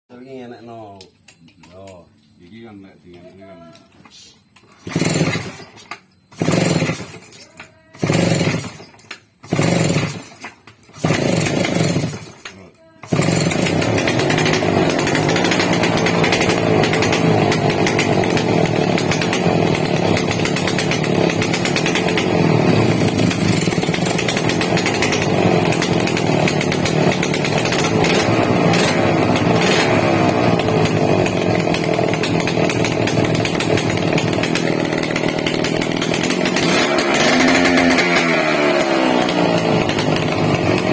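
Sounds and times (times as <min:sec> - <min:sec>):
power tool running loudly: 0:04.8 - 0:05.6, 0:06.4 - 0:07.2, 0:08.0 - 0:08.8, 0:09.5 - 0:10.4, 0:11.0 - 0:40.9.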